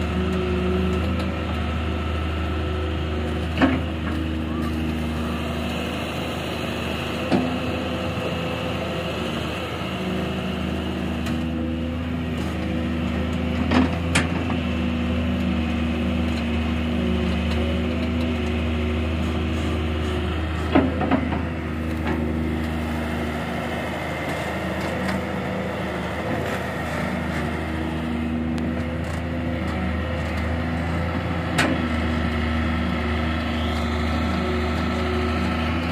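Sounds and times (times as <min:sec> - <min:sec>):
diesel engine running under load: 0:00.0 - 0:35.9.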